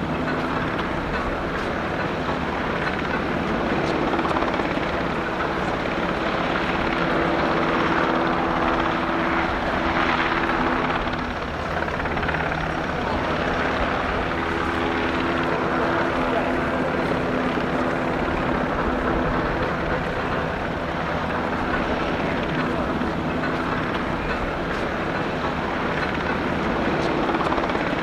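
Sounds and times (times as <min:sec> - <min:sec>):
helicopter rotor and turbine noise: 0:00.0 - 0:28.0.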